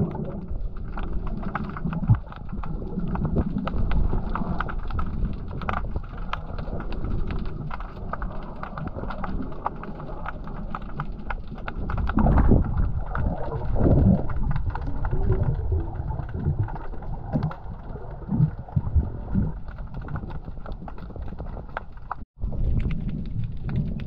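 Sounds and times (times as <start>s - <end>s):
bubbles clicking and crackling: 0.0s - 24.0s
underwater rumble and sloshing: 0.0s - 24.0s.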